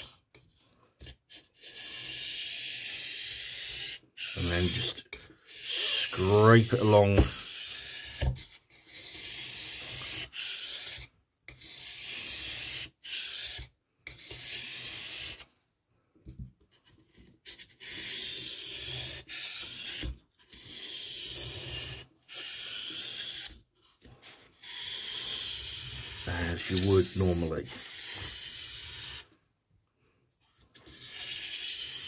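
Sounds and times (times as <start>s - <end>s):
knife scraping on whetstone: 1.0s - 15.5s, 16.8s - 29.3s, 30.5s - 32.0s.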